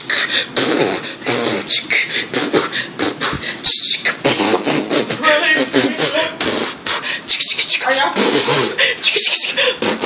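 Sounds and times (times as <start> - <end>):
people beatboxing: 0.0 - 10.0.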